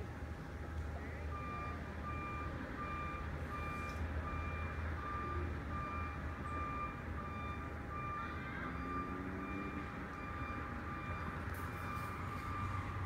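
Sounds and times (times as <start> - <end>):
distant electronic beeps: 1.3 - 13.0.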